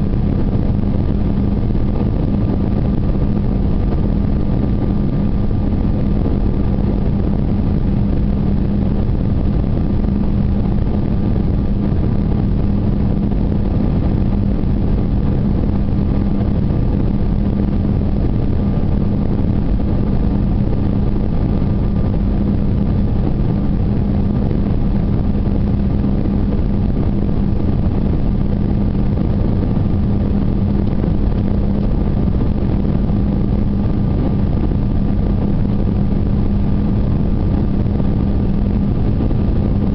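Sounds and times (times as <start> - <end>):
aircraft cabin engine noise: 0.0 - 39.9
steady low hum: 0.0 - 39.9.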